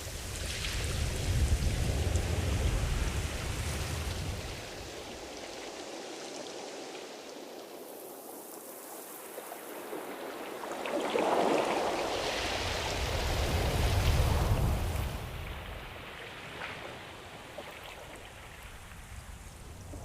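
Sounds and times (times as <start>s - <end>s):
ocean surf: 0.0s - 20.0s.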